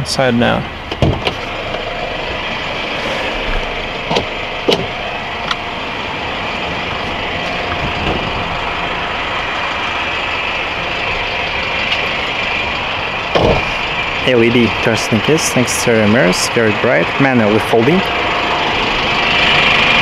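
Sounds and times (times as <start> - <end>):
diesel truck idling: 0.0 - 20.0.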